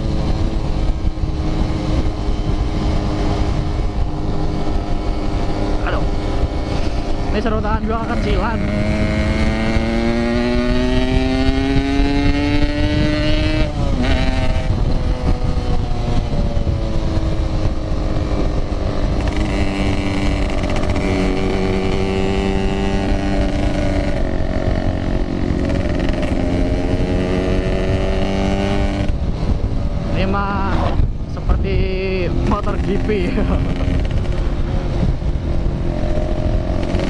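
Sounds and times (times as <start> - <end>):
two-stroke motorcycle engine: 0.0 - 37.0.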